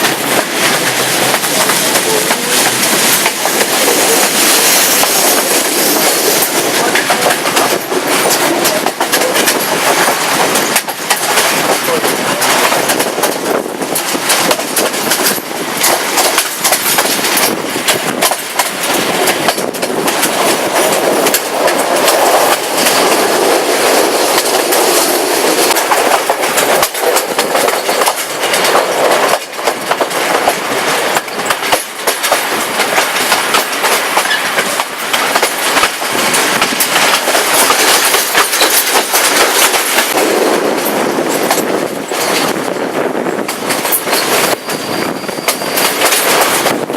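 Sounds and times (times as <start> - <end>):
wheels clacking over rail joints: 0.0 - 42.8, 43.4 - 46.9
train wheels rumbling on rails: 0.0 - 46.9.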